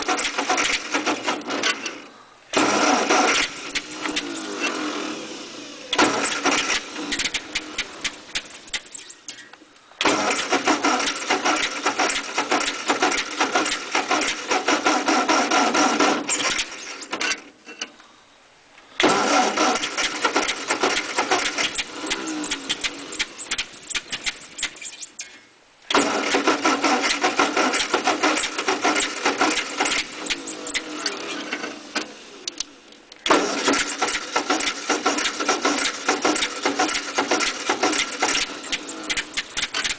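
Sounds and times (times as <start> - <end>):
tractor engine cranking over: 0.0 - 9.4, 10.0 - 17.9, 19.0 - 25.2, 25.9 - 39.9.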